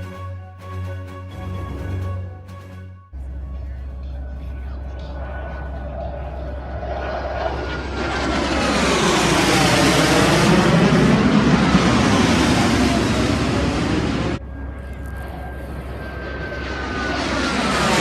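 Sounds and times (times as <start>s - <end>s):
jet aircraft flying overhead: 3.2s - 18.0s.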